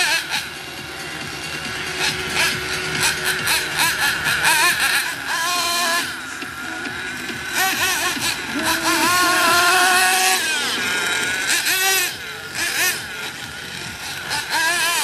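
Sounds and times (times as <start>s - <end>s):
rc car motor whine revving: 0.0s - 15.0s.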